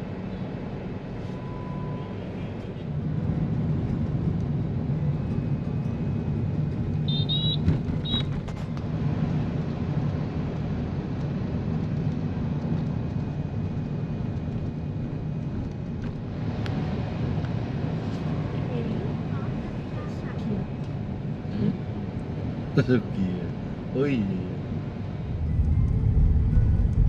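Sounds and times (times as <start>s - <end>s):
car road noise and engine hum: 0.0s - 27.0s.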